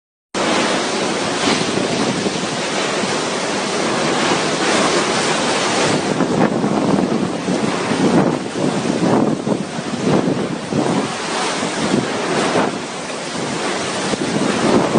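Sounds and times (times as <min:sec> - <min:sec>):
strong wind buffeting microphone: 0:00.4 - 0:14.9.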